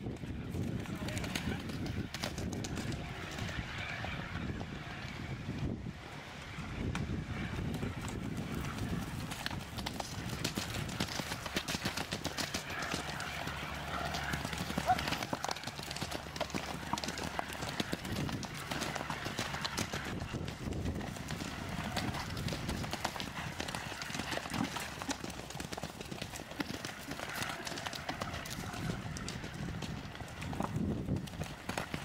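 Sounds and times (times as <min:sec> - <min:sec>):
horses cantering hoofbeats: 0:00.0 - 0:32.0.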